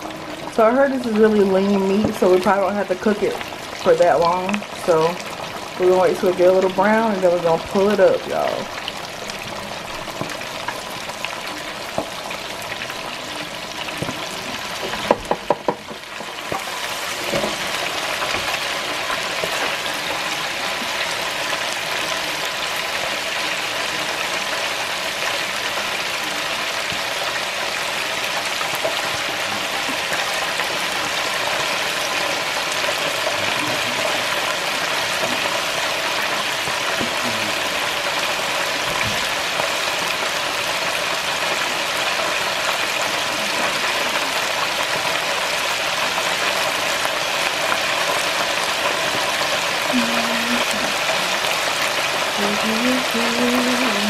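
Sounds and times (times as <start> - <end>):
oil sizzling in deep fryer: 0.0 - 54.0.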